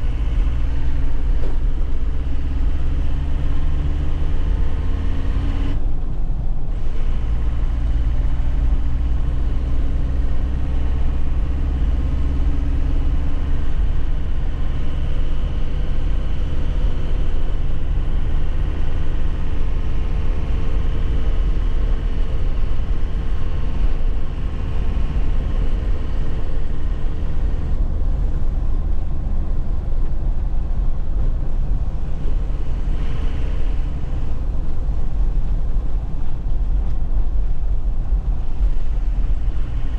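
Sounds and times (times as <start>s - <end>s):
road and tyre noise: 0.0s - 39.9s
truck engine running: 0.0s - 39.9s.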